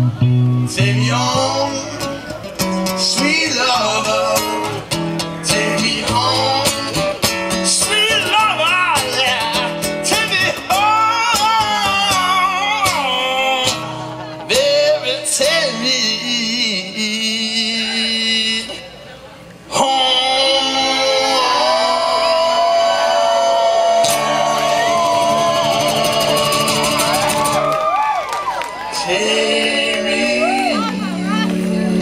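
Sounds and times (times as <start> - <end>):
song with singing over guitar: 0.0 - 18.8, 19.6 - 28.1, 28.7 - 32.0.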